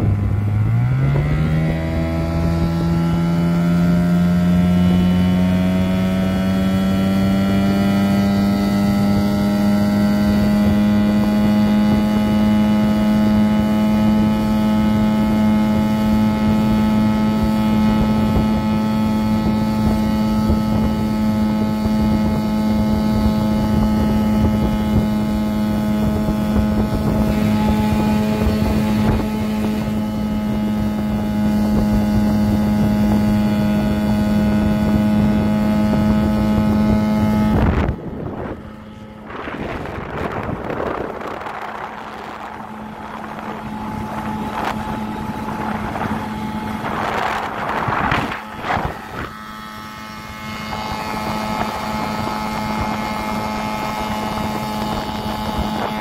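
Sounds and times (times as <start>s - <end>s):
outboard motor running: 0.0s - 56.0s
wind noise on microphone: 0.0s - 56.0s
soft water wash: 7.7s - 56.0s.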